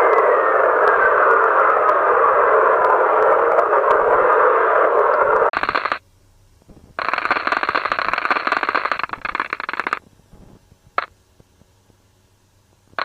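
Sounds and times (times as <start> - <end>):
crackling buzz: 0.0 - 13.0.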